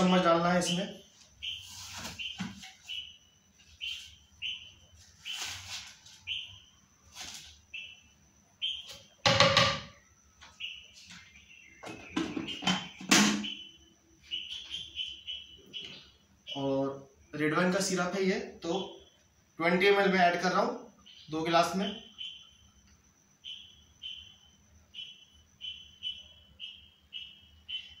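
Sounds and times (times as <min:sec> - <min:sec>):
small bird chirping: 0:00.0 - 0:18.0, 0:20.9 - 0:28.0.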